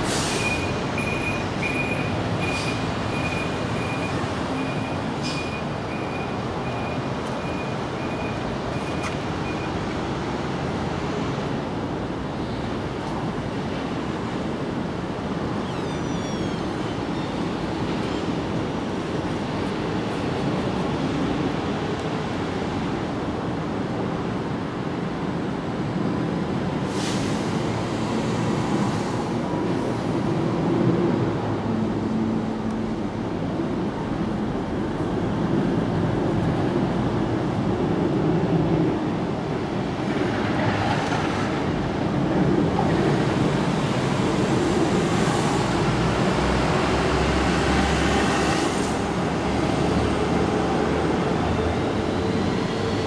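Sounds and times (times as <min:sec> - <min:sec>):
vehicle traffic rumble: 0:00.0 - 0:53.0.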